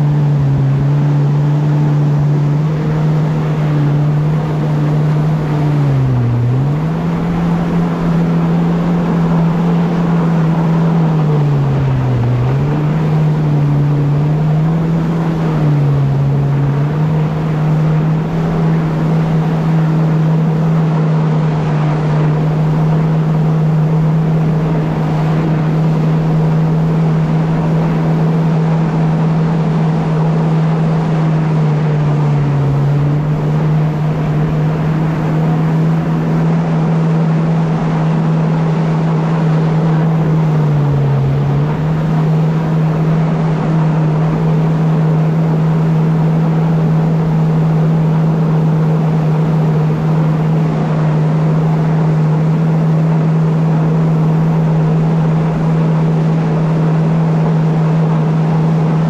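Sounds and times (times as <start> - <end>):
constant rushing noise: 0.0 - 59.0
vehicle engine droning: 0.0 - 59.0.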